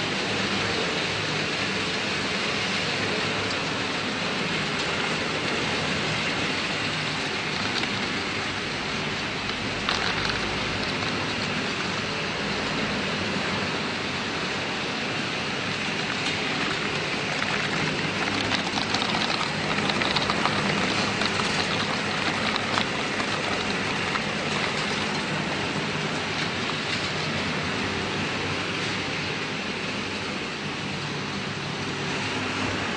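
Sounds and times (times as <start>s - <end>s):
motors and conveyors din: 0.3s - 32.9s.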